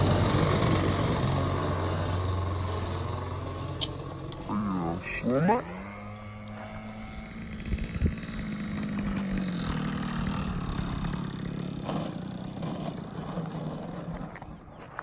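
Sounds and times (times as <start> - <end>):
model plane engine running: 0.0 - 14.8.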